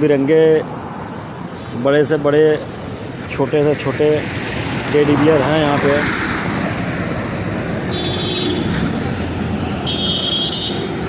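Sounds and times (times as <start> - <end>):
roadside traffic noise: 0.0 - 11.0.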